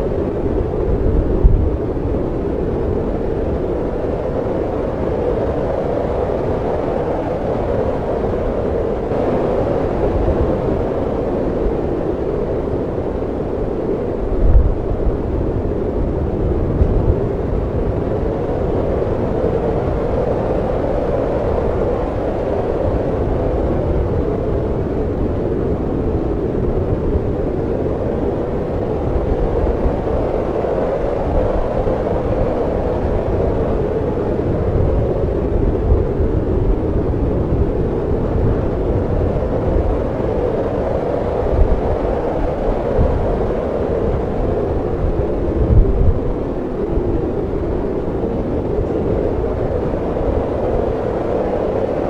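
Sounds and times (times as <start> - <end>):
snowstorm wind blowing: 0.0 - 52.0.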